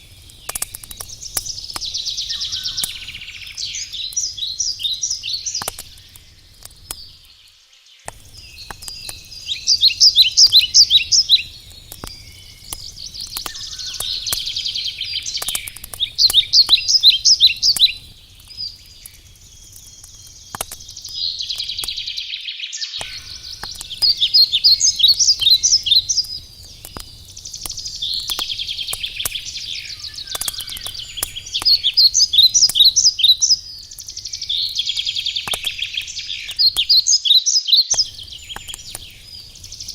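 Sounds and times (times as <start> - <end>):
campfire crackling and popping: 0.0 - 39.9
songbirds singing trilled phrases: 0.0 - 39.9.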